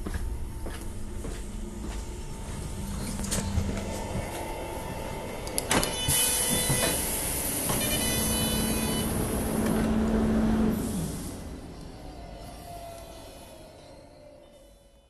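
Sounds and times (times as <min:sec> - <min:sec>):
train hum winding down: 0:00.0 - 0:15.0.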